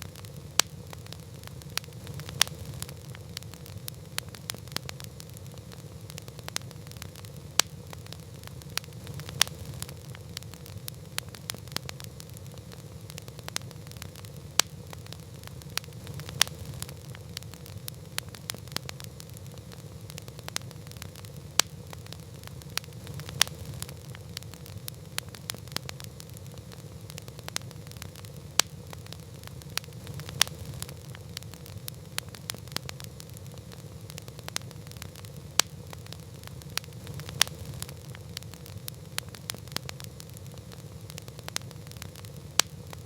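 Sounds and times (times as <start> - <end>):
campfire crackling: 0.0 - 43.0.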